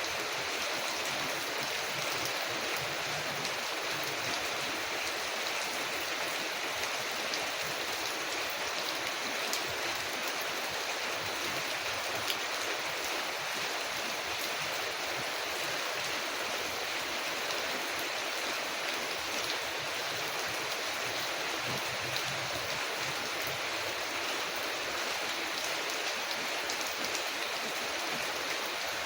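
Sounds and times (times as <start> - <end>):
rain on a window: 0.0 - 29.0.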